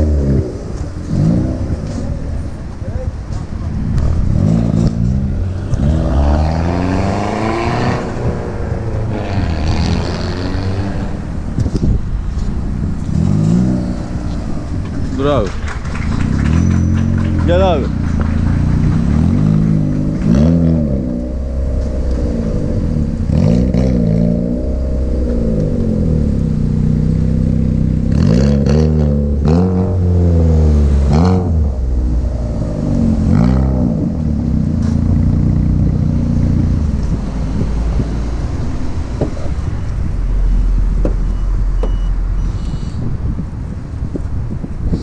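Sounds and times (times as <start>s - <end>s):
car engine revving: 0.0s - 44.6s.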